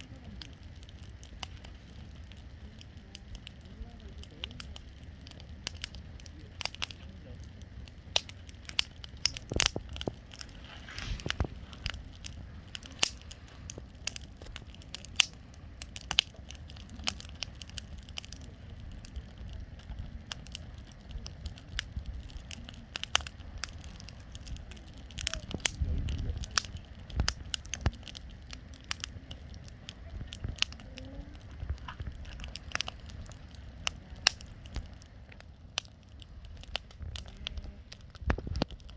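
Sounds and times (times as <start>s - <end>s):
bonfire crackling and popping: 0.0s - 38.9s
low rumble: 0.0s - 38.9s.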